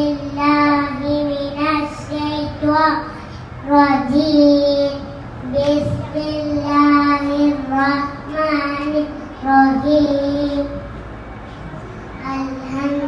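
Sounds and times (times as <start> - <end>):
boy singing into a microphone: 0.0 - 10.9.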